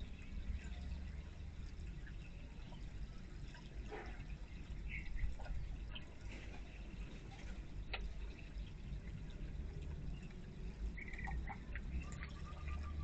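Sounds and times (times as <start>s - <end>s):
fountain water trickling: 0.0s - 13.0s.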